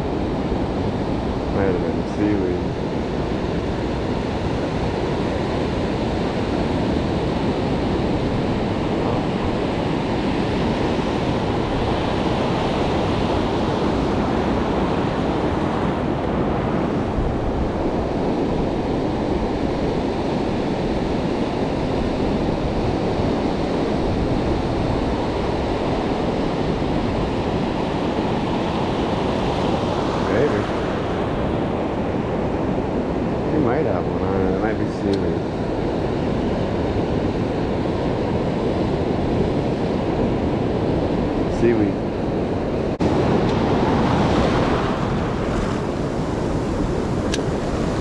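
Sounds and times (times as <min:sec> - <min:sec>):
waves breaking on a beach: 0:00.0 - 0:48.0.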